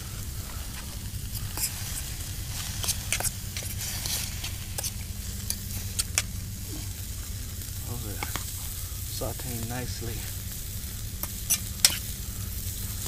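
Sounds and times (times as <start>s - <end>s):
fire popping and crackling: 0.0s - 13.0s
food sizzling in a pan: 0.0s - 13.0s.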